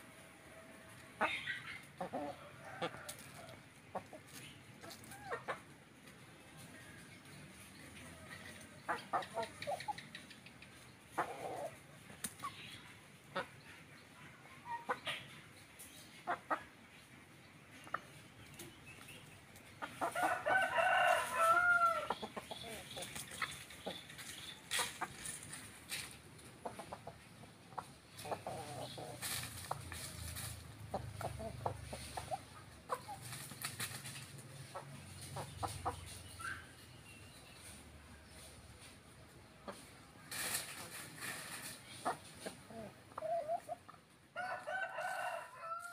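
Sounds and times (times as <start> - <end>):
chickens clucking: 0.0 - 45.9
rustles: 0.8 - 13.5, 17.7 - 27.1, 27.8 - 45.9.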